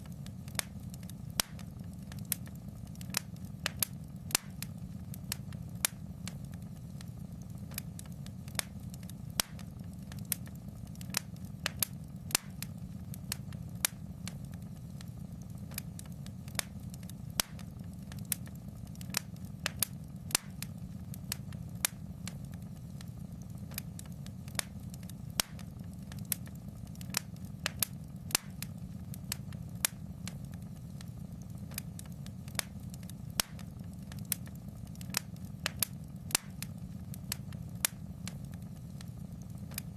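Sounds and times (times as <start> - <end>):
fire flames rumbling: 0.0 - 39.9
wood fire crackling and popping: 0.0 - 39.9.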